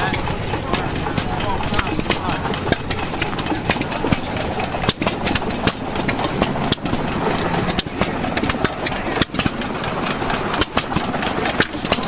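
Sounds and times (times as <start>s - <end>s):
old gas engines running: 0.0s - 12.0s
sharp exhaust beats: 0.0s - 12.0s.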